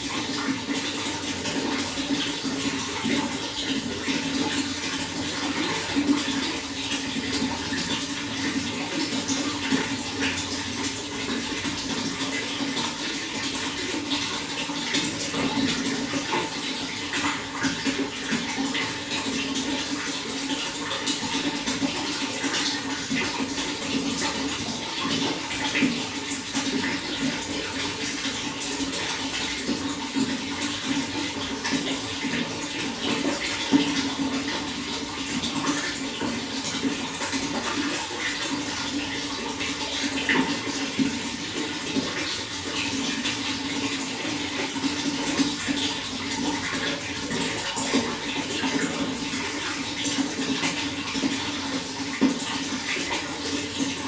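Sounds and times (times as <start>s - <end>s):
running water with splashes: 0.0s - 54.0s.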